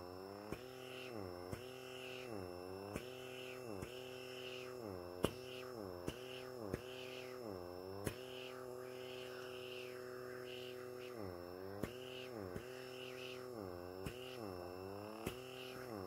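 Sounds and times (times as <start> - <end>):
small suction motor humming: 0.0 - 16.0.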